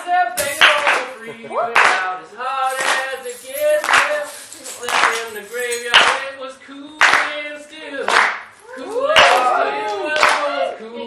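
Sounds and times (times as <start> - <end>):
hands clapping: 0.4 - 2.1, 2.7 - 6.3, 7.0 - 10.6.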